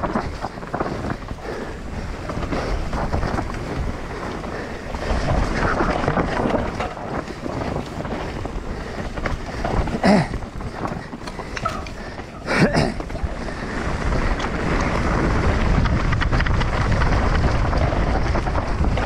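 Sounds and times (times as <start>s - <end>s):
bike clatter: 0.0s - 19.0s
bike rattling: 0.0s - 19.0s
tyres crunching on dirt: 0.0s - 19.0s
wind buffeting microphone: 0.0s - 19.0s.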